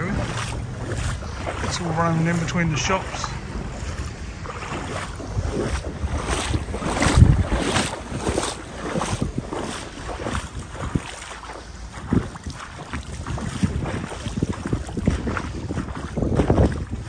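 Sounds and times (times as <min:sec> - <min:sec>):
footsteps wading through water: 0:00.0 - 0:17.0
wind buffeting microphone: 0:00.0 - 0:17.0.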